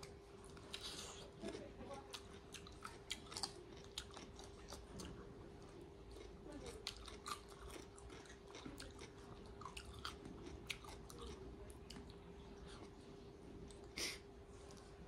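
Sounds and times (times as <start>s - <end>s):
chewing and crunching: 0.0s - 15.0s
faint steady hum: 0.0s - 15.0s.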